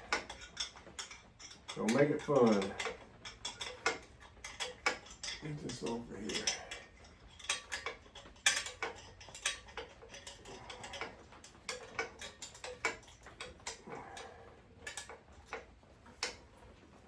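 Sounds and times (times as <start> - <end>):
metal hand tools clinking: 0.0 - 16.4
wrench ticking: 0.0 - 16.4.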